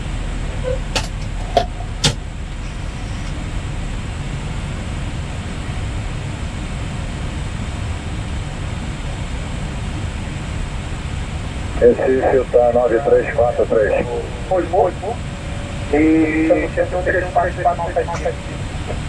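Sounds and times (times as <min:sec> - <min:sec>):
rushing cabin noise: 0:00.0 - 0:05.7, 0:09.3 - 0:19.0.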